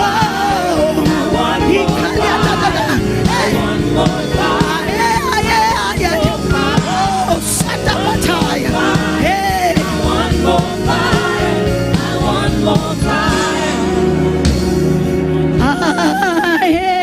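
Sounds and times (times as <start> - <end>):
person singing wordless lines: 0.0 - 14.2, 15.6 - 17.0
steady beat: 0.0 - 14.9
keyboard chords: 0.0 - 17.0.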